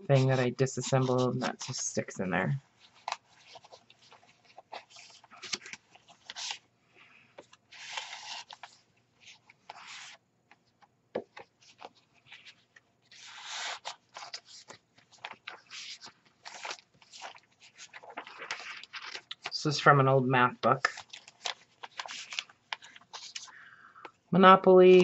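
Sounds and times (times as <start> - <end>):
paper pages rustling and sliding: 0.1 - 20.0, 20.7 - 23.8.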